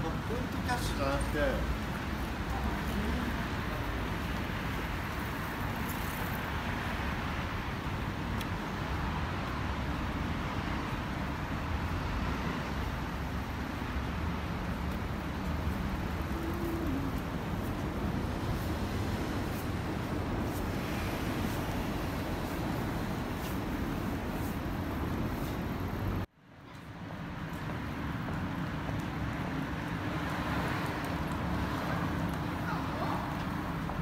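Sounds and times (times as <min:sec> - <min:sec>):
street traffic rumble: 0:00.0 - 0:34.0.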